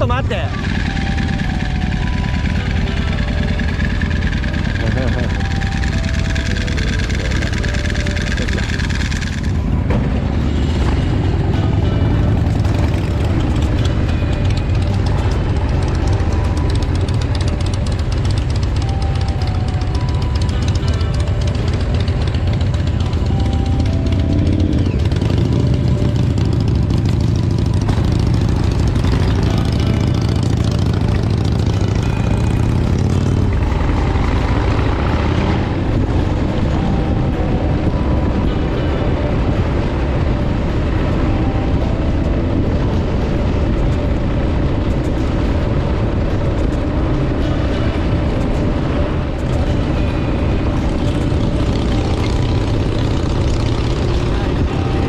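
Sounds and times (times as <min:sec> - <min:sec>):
motorcycle engine running: 0:00.0 - 0:55.0
rush of noise: 0:00.0 - 0:55.0.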